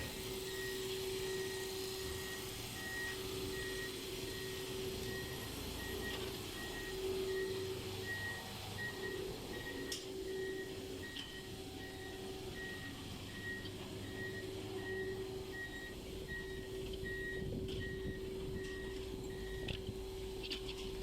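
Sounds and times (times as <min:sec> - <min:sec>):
vehicle running hum: 0:00.0 - 0:21.0
high electronic beeps: 0:00.5 - 0:19.8.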